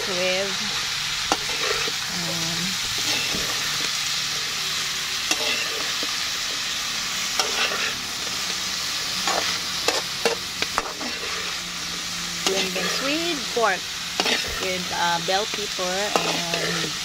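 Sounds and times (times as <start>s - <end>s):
food sizzling in wok: 0.0s - 17.0s
utensil scraping and knocking wok: 0.0s - 17.0s.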